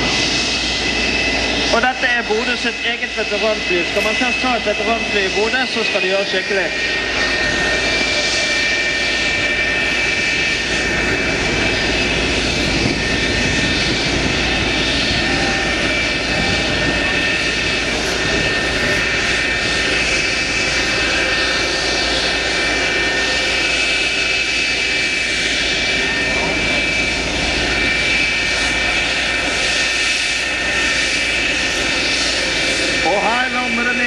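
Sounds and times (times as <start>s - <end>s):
high compressor whine: 0.0s - 34.0s
jet engine roar: 0.0s - 34.0s.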